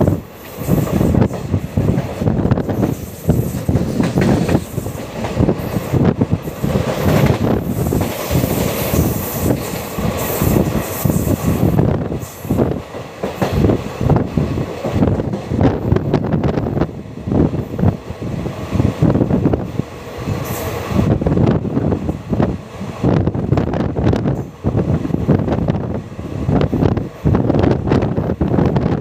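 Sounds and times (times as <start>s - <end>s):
train wheels rumbling and rattling: 0.0s - 29.0s.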